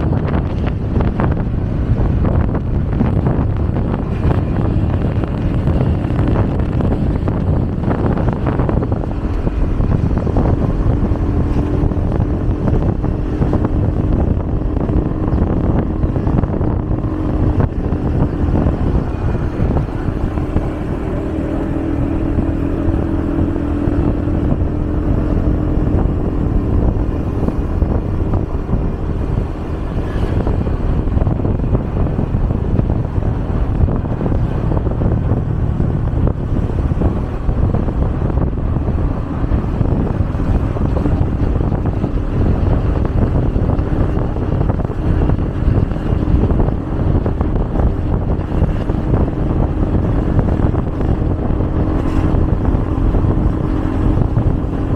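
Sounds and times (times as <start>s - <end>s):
engine drone: 0.0s - 54.9s
road traffic rumble: 0.0s - 54.9s
wind buffeting microphone: 0.0s - 54.9s.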